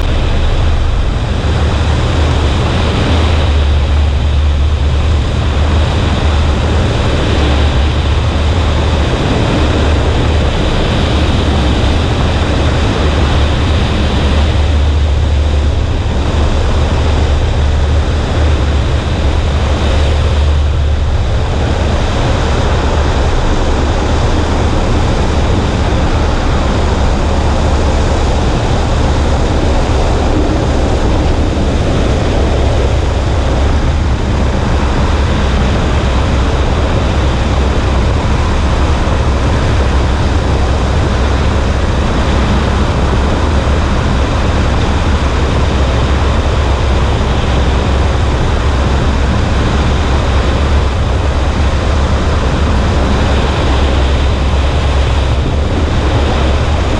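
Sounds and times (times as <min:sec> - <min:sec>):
light aircraft engine drone: 0:00.0 - 0:56.9
rushing airflow: 0:00.0 - 0:56.9.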